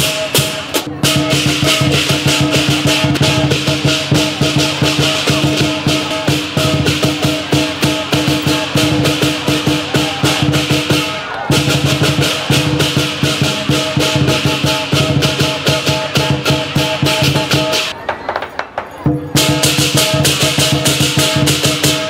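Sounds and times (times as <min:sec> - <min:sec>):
large drum beating: 0:00.0 - 0:18.0, 0:19.0 - 0:22.0
cymbals clashing: 0:00.0 - 0:22.0.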